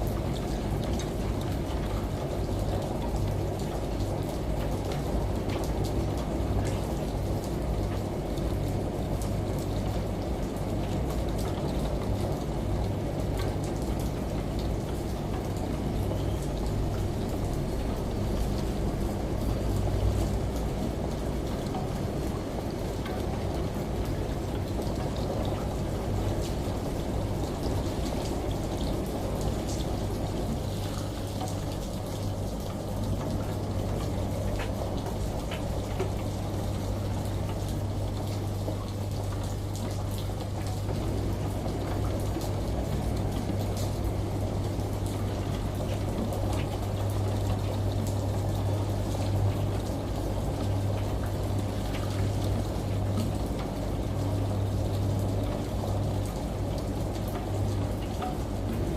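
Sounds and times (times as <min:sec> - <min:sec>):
running water: 0:00.0 - 0:58.9
steady rain: 0:00.0 - 0:58.9
washing machine hum: 0:00.0 - 0:58.9.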